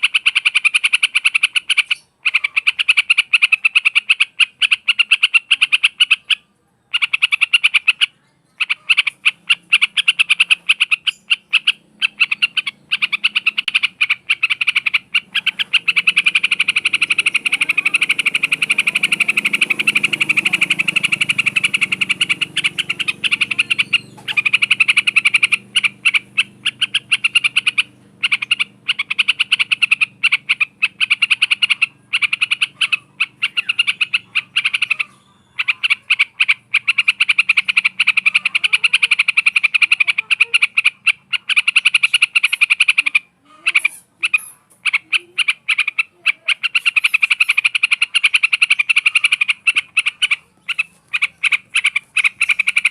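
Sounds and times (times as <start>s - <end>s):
animal calling in clicking pulses: 0.0s - 52.9s.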